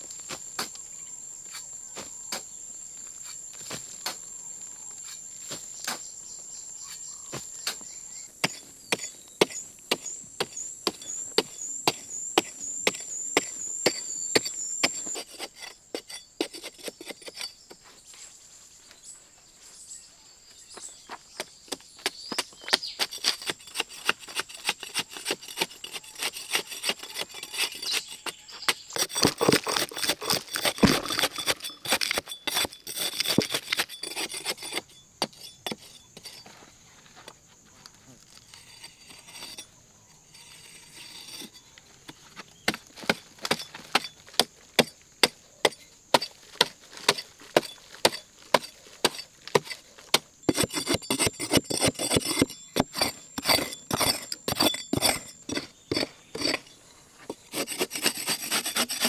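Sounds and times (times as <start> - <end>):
hoe chopping into sandy soil: 0.1 - 0.8, 3.2 - 4.3, 5.0 - 6.1, 6.8 - 17.8, 21.0 - 36.5, 41.0 - 59.0.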